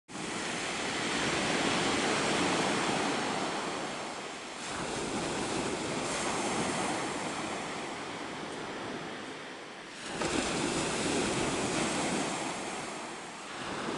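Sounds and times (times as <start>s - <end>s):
surf washing on shingle beach: 0.1s - 13.9s.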